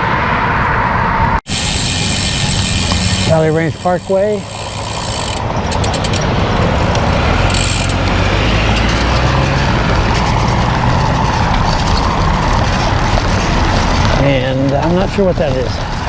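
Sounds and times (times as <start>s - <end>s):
motor traffic passing close: 0.0s - 16.0s.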